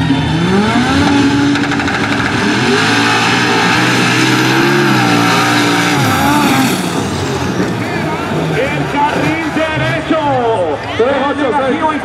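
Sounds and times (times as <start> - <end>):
racing engines revving hard: 0.0 - 11.8.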